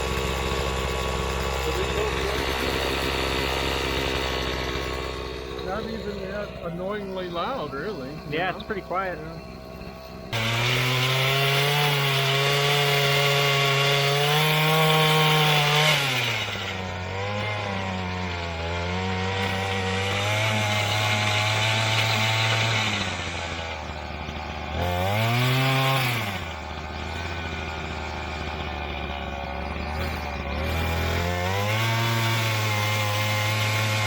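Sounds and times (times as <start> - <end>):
small two-stroke engine running: 0.0 - 34.0.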